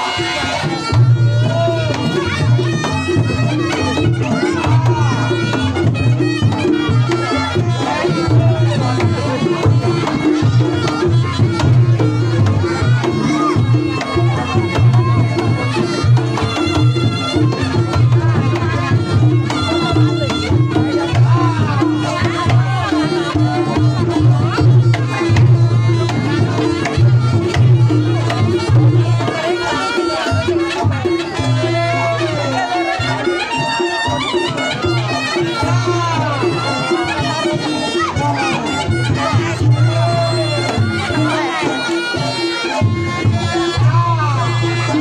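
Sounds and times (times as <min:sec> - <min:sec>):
drums beating a driving rhythm: 0:00.0 - 0:45.0.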